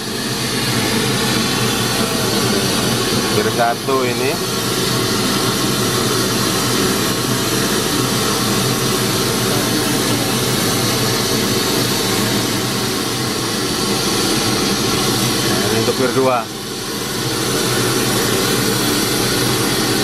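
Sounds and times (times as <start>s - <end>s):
loud test noise hiss: 0.0s - 20.0s.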